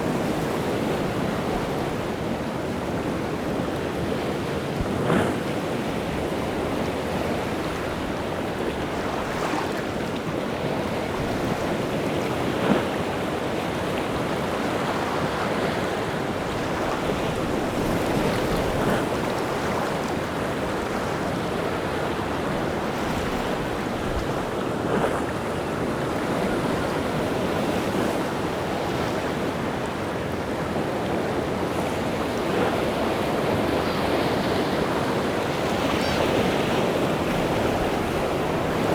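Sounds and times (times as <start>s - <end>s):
waves breaking on shore: 0.0s - 38.9s
wind: 0.0s - 38.9s.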